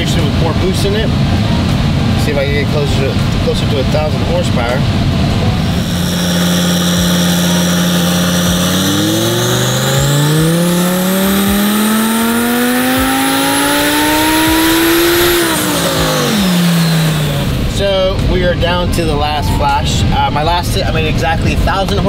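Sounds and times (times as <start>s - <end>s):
car engine revving: 0.0s - 19.4s
high whine: 0.0s - 22.0s.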